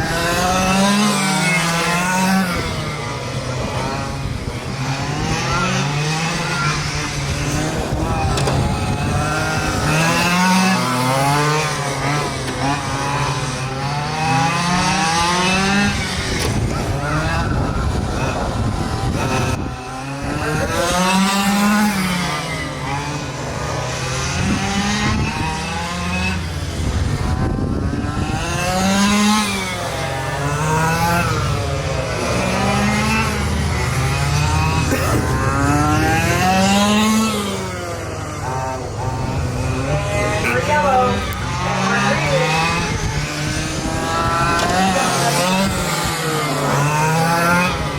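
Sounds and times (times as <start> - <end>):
rc truck engines racing: 0.0 - 47.9.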